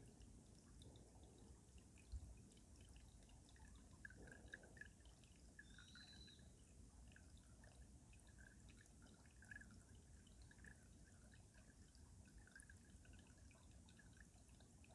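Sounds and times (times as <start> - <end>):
stream water trickling under ice: 0.0 - 14.9.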